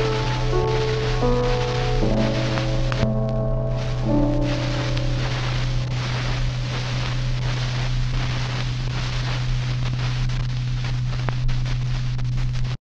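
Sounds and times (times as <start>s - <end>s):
low constant hum: 0.0s - 12.8s
steady hiss: 0.0s - 12.8s.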